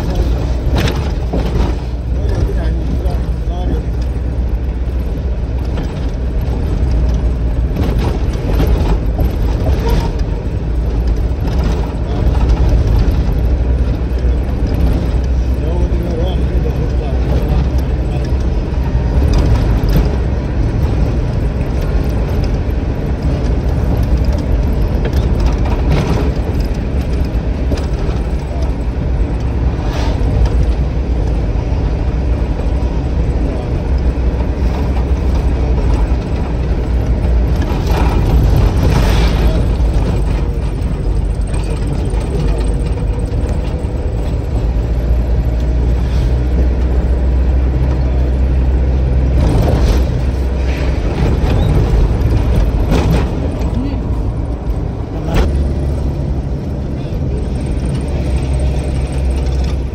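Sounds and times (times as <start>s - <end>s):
rattles and short knocks: 0.0s - 59.9s
vehicle engine and road rumble: 0.0s - 59.9s.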